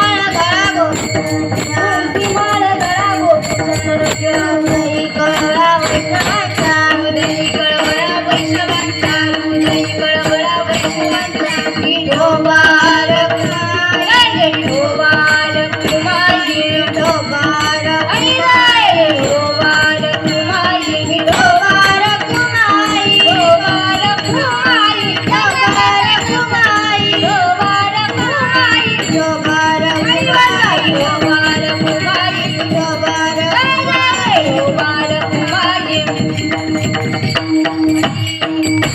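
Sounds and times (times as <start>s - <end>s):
jingling hand percussion: 0.0s - 38.9s
woman singing devotional song: 0.0s - 38.9s.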